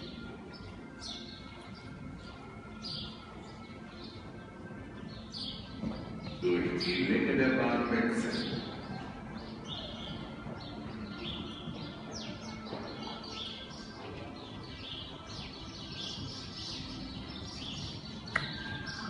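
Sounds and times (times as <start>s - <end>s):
small birds chirping: 0.0s - 7.3s, 7.9s - 19.0s.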